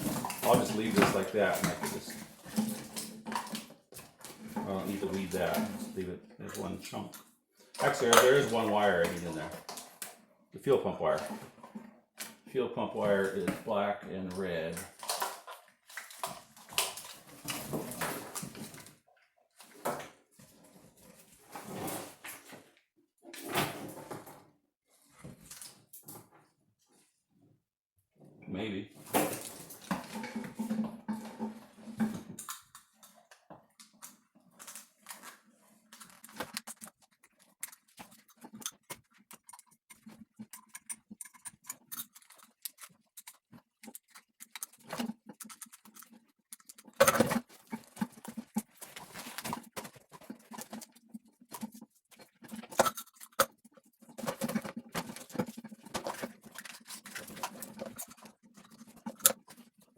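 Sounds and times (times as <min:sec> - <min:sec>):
wires rustling and crackling: 0:00.0 - 0:19.8, 0:29.0 - 0:59.9.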